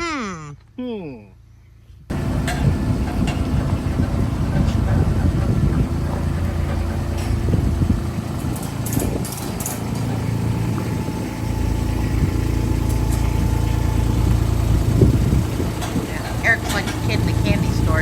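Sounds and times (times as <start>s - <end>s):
engine running at low speed: 2.1s - 18.0s.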